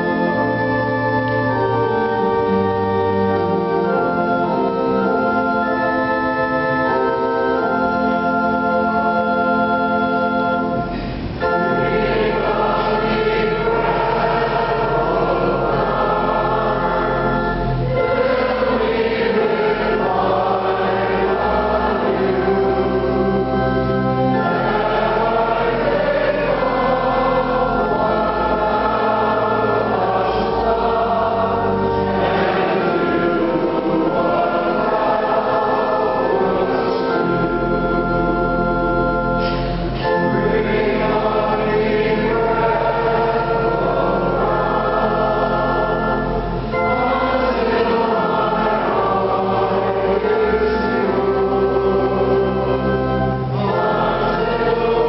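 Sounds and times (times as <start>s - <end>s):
choir singing sacred music: 0.0s - 55.0s
organ accompaniment: 0.0s - 55.0s.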